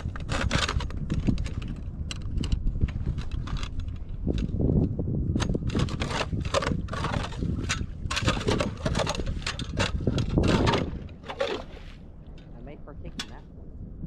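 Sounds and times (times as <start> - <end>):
ice auger crunching through ice: 0.0 - 4.7, 5.4 - 12.0
wind rumble on microphone: 0.0 - 14.0.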